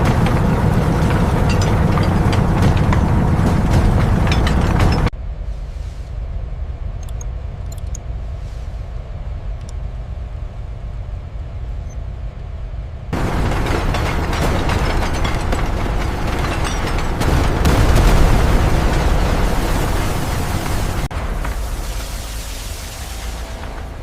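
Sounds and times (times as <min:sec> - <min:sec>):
heavy machinery rumble: 0:00.0 - 0:24.0
loud even roar of machinery: 0:00.0 - 0:24.0.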